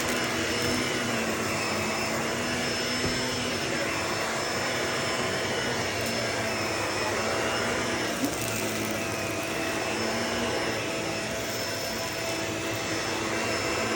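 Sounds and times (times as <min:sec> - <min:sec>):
vacuum cleaner running: 0:00.0 - 0:13.9.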